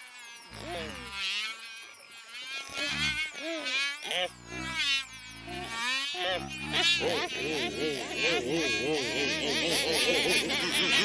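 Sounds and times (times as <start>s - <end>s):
cartoon housefly buzzing: 0.3s - 11.0s.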